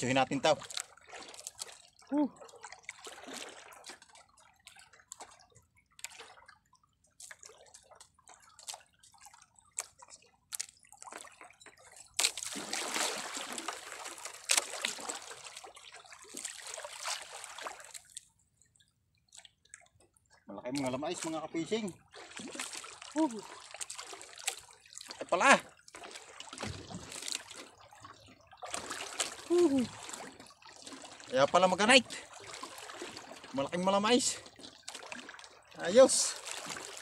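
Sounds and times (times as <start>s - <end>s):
water splashing and trickling: 0.0s - 37.0s.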